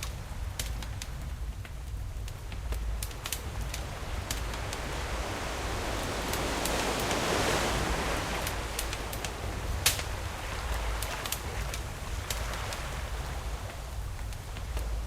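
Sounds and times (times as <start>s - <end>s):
campfire crackling: 0.0s - 15.0s
low rumble of surf: 0.0s - 15.0s
sea waves washing ashore: 0.0s - 15.0s.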